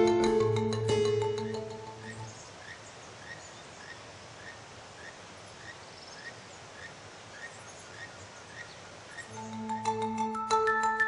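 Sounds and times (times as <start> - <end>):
bird chirping: 0.0 - 11.0
outdoor ambient hiss: 0.0 - 11.0.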